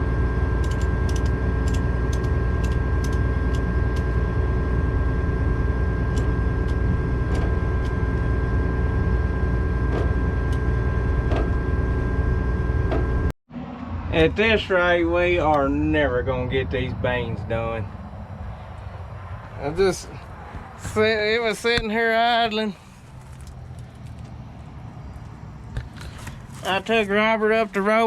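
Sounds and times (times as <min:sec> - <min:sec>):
combine harvester engine drone: 0:00.0 - 0:28.0
high whine: 0:00.0 - 0:28.0.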